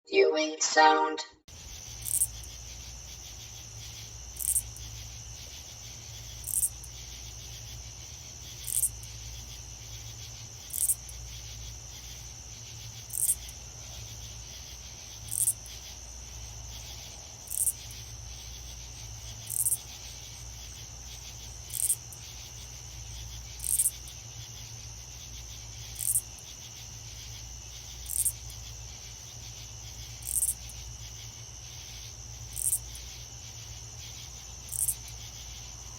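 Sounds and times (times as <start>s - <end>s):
crickets trilling: 1.5s - 35.9s.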